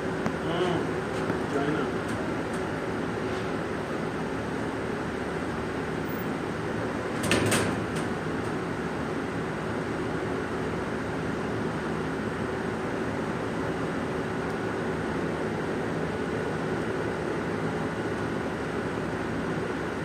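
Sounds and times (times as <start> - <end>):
large engine humming steadily: 0.0 - 20.0.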